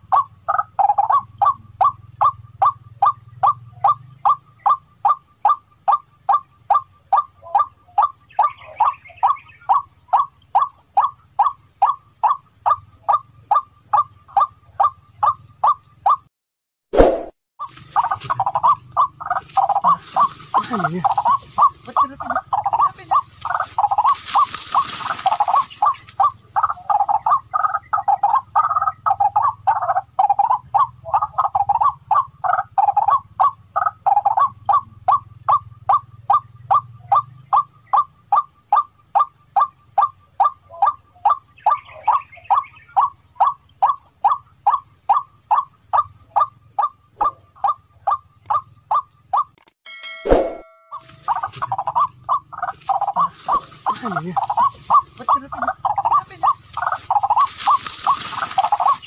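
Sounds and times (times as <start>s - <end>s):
waterhen calling: 0.0s - 16.2s, 17.0s - 49.5s, 50.9s - 59.0s.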